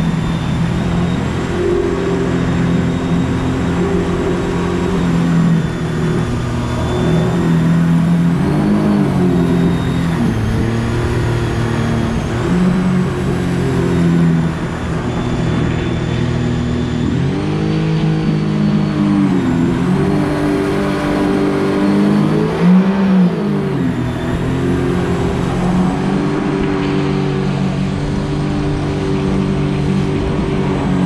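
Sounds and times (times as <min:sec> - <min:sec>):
outboard motor revving: 0:00.0 - 0:31.0
water and wind rushing: 0:00.0 - 0:31.0.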